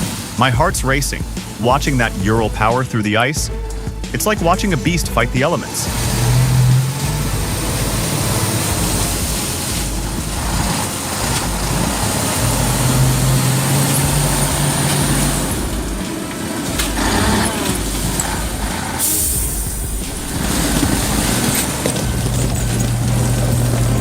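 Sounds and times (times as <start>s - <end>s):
heavy truck engine running: 0.0s - 24.0s.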